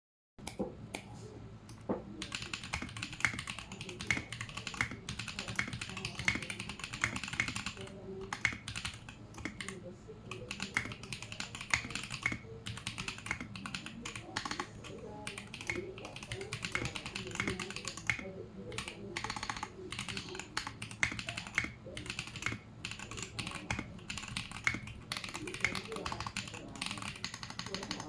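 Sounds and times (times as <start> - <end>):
mechanical keyboard typing: 1.7 - 28.0.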